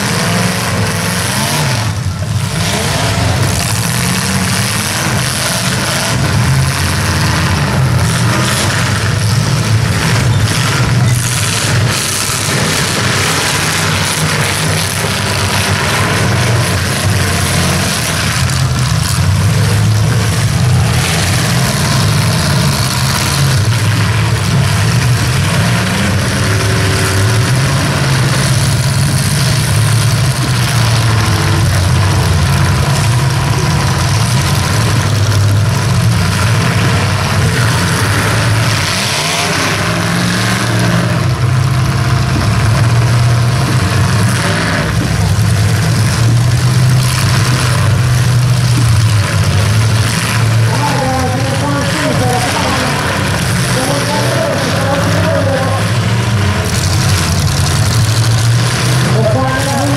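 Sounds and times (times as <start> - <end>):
car engines revving loudly: 0.0 - 59.9.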